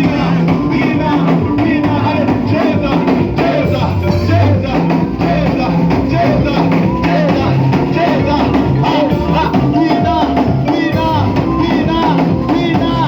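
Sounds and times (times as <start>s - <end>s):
band playing a steady beat: 0.0s - 13.0s
people singing: 0.0s - 13.0s.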